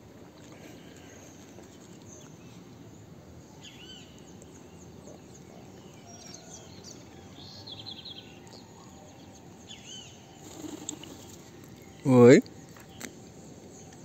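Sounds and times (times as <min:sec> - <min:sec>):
birds chirping: 0:00.6 - 0:14.0.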